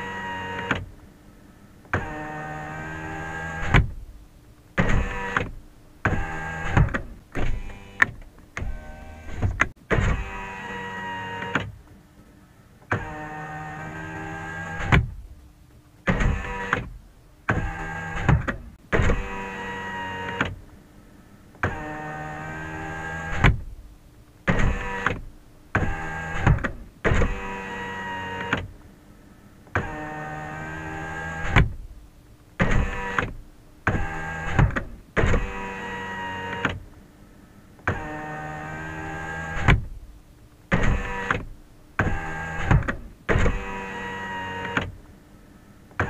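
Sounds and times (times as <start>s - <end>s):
car power window motor whine: 0.0s - 4.0s, 4.8s - 15.3s, 16.0s - 20.6s, 21.6s - 23.7s, 24.5s - 28.8s, 29.7s - 31.9s, 32.6s - 36.9s, 37.7s - 40.0s, 40.7s - 45.0s.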